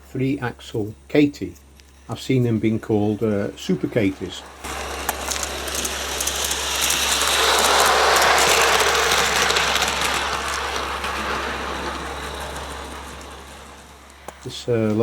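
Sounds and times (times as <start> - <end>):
rapid clicking of wheels: 1.6 - 15.0
steam locomotive hissing past: 2.1 - 15.0.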